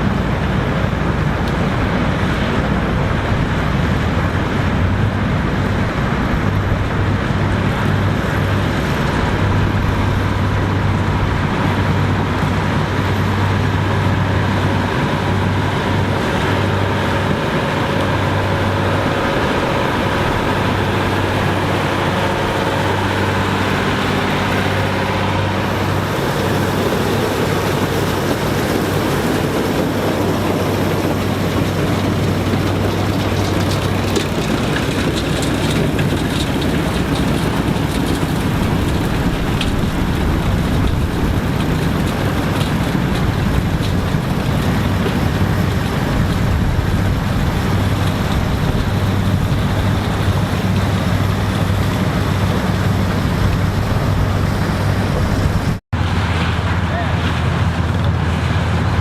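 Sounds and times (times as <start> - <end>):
harvesting machinery running: 0.0 - 59.0.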